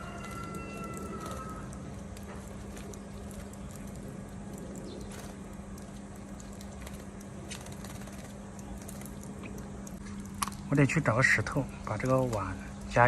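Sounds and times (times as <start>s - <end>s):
birds splashing in water: 0.0s - 13.0s
steady low hum: 0.0s - 13.0s.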